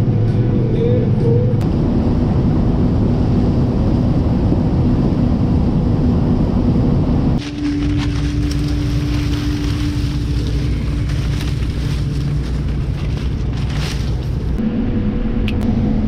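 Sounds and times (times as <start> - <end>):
combine harvester engine hum: 0.0 - 16.0.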